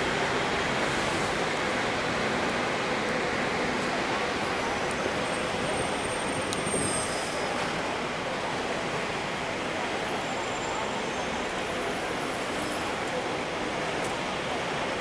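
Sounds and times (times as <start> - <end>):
street traffic noise: 0.0 - 15.0
tram wheels rumbling on rails: 0.0 - 15.0.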